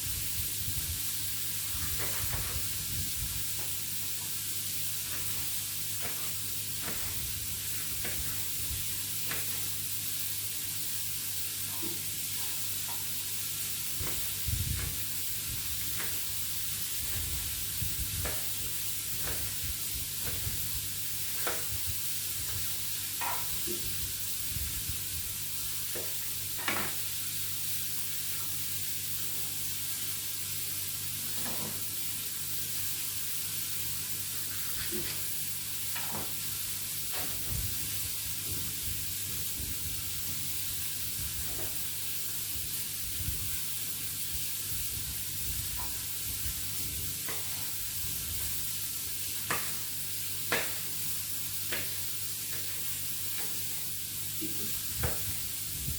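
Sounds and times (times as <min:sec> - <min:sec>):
meat sizzling in hot oil: 0:00.0 - 0:55.9.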